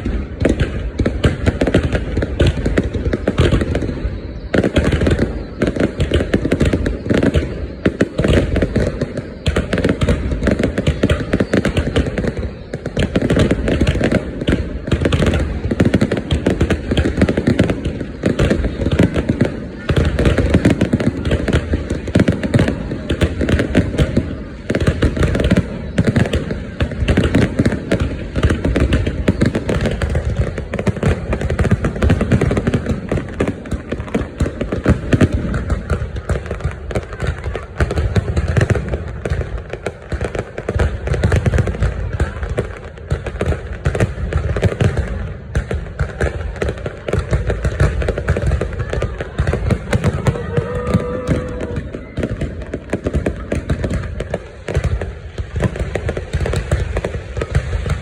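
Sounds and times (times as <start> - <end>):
deep fireworks booms: 0.0 - 58.0
fireworks bangs and crackling: 0.0 - 58.0.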